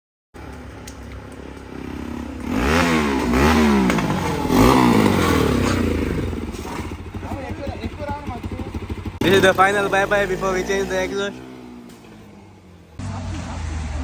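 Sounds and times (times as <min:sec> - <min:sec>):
motorcycle engine revving: 0:00.4 - 0:14.0.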